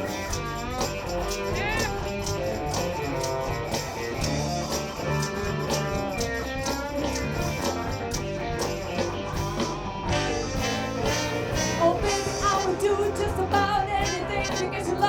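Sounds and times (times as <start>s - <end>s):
electric guitar lead: 0.0s - 15.0s
rock band playing: 0.0s - 15.0s.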